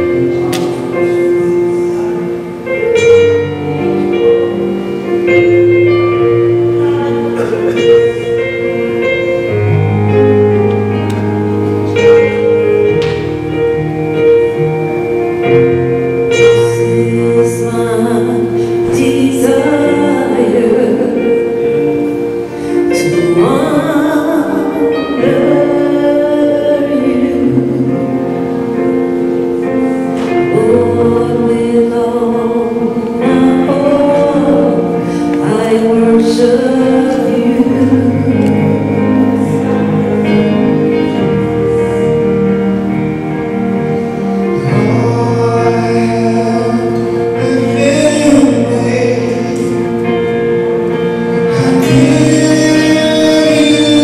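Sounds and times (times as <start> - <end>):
gospel singing over held chords: 0.0 - 54.0.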